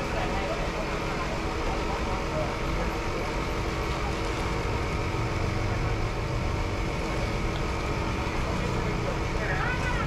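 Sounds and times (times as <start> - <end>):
city traffic: 0.0 - 10.0.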